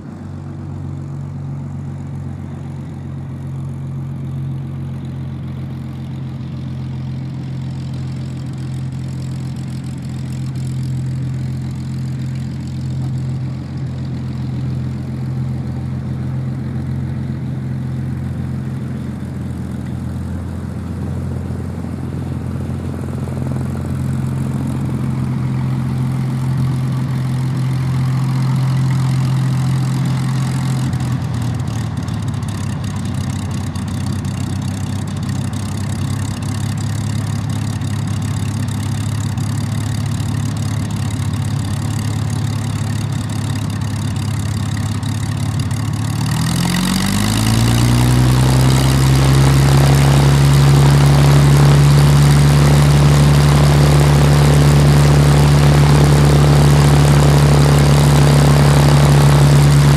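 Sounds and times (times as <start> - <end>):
aircraft engine revving up: 0.0 - 59.9
aircraft engines idling: 0.0 - 59.9.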